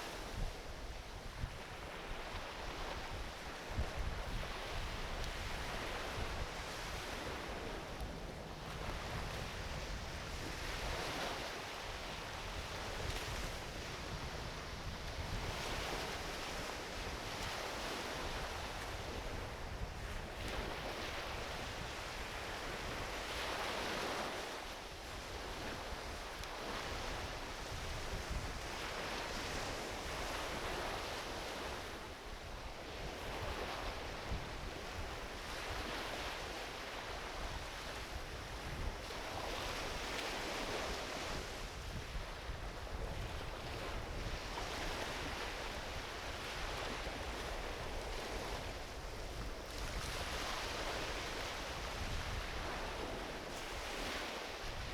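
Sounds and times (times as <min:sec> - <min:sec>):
waves washing onto beach: 0:00.0 - 0:54.9.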